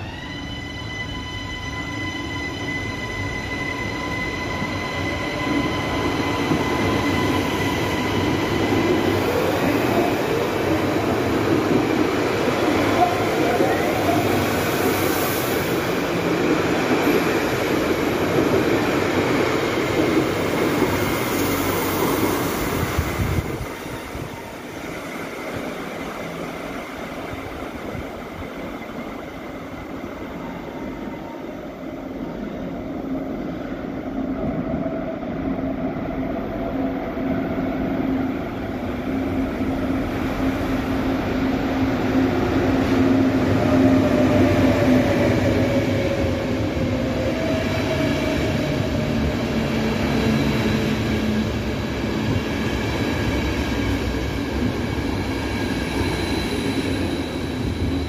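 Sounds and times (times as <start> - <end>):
approaching train hum: 0.0 - 58.0
electric train rumbling: 0.0 - 58.0.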